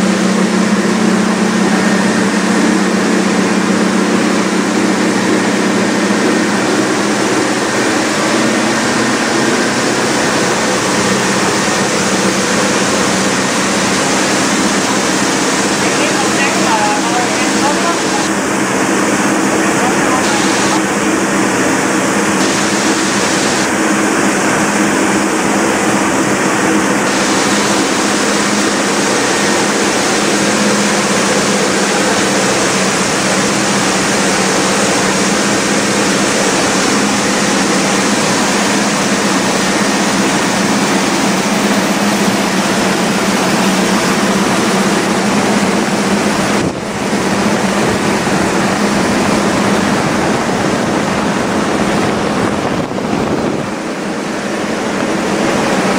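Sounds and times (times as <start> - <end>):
loud rushing hiss: 0.0 - 55.9
machine hum: 0.0 - 55.9.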